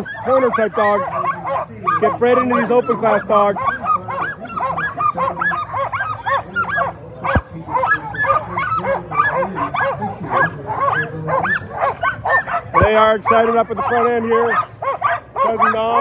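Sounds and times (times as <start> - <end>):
dogs barking and yipping: 0.0 - 16.0.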